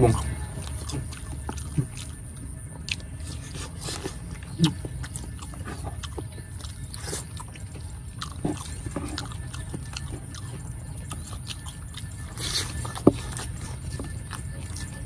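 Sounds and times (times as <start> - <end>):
chewing and crunching: 0.0 - 15.0
steady low rumble: 0.0 - 15.0.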